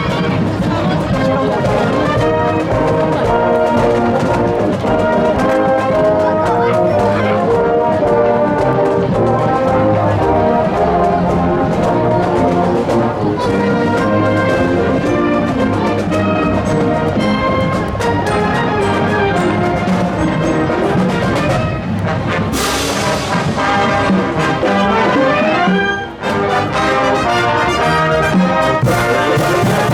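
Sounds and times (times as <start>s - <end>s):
marching wind band playing: 0.0s - 29.9s.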